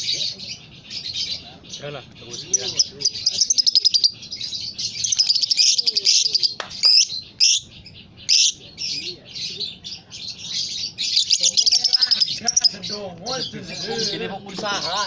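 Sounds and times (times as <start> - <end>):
lovebird chattering: 0.0 - 14.2.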